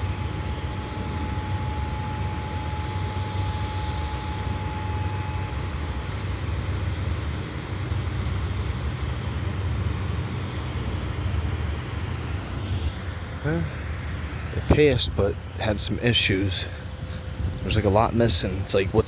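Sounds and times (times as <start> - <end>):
distant warning siren: 0.0 - 18.3
low outdoor background rumble: 0.0 - 19.0.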